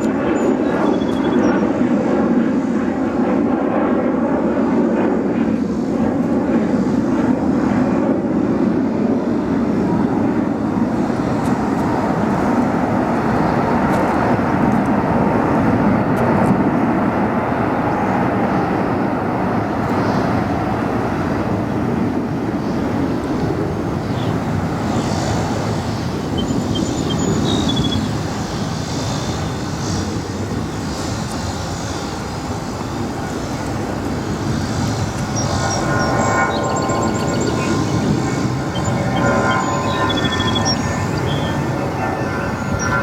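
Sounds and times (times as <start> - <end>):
jet airliner engines rumbling: 0.0 - 43.0.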